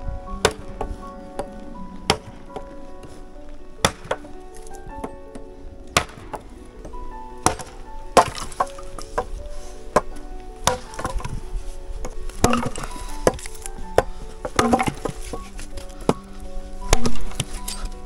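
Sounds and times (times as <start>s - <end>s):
firewood cracking: 0.0s - 18.0s
plucked melody music: 0.0s - 18.0s.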